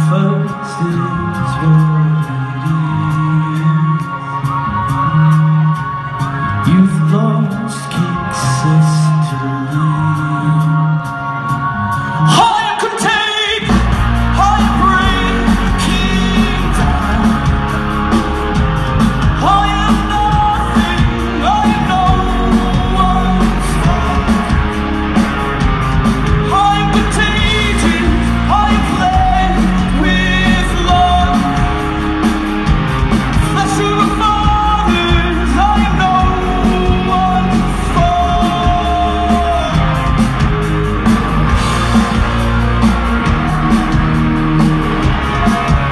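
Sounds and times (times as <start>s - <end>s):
lead singer singing: 0.0s - 45.9s
live rock band playing: 0.0s - 45.9s.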